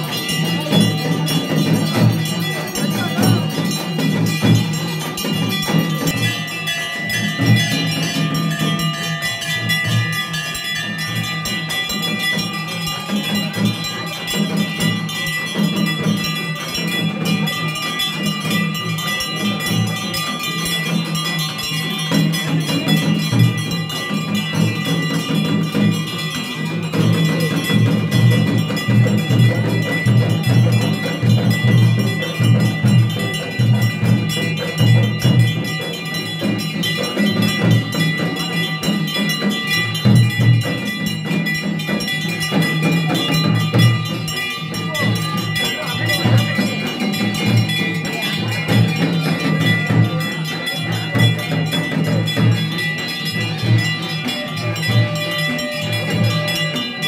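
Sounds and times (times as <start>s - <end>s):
temple bells ringing: 0.0s - 57.0s.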